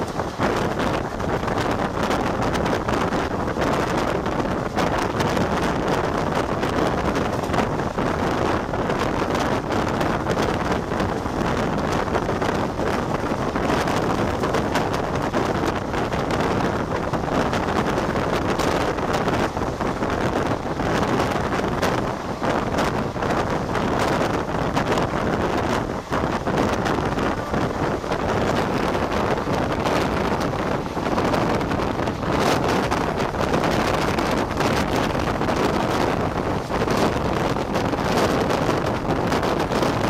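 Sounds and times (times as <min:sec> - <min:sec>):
train coaches rumbling: 0:00.0 - 0:40.0
wind on microphone: 0:00.0 - 0:40.0.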